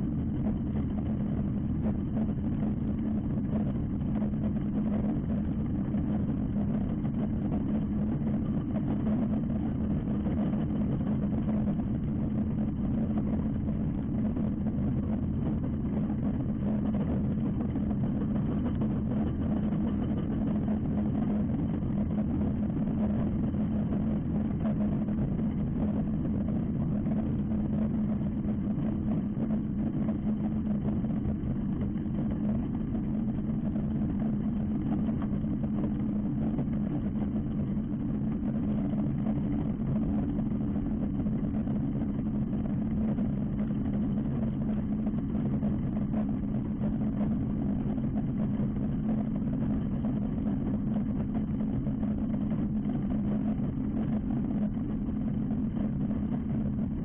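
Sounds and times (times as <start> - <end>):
light aircraft engine idling: 0.0 - 57.0.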